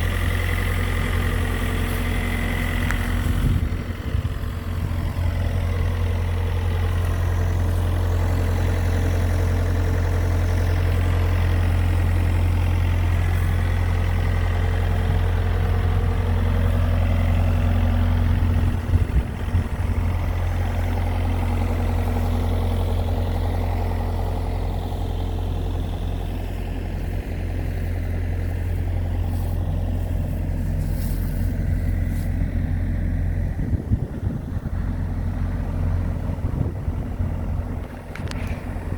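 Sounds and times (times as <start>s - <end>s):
tractor engine running steadily: 0.0s - 38.9s.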